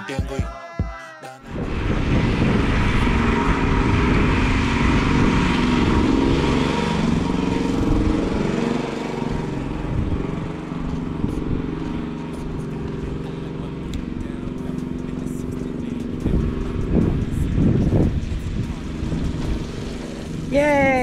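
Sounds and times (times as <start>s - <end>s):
generator engine running: 1.5s - 21.0s.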